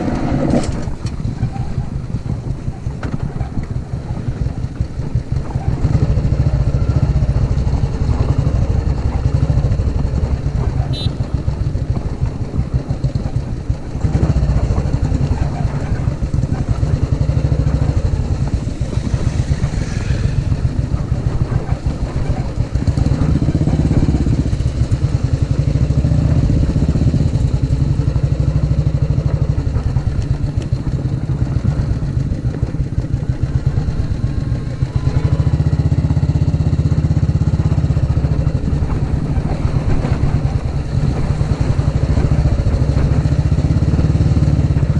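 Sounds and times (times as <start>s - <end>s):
motorcycle engines thumping: 0.0s - 44.9s.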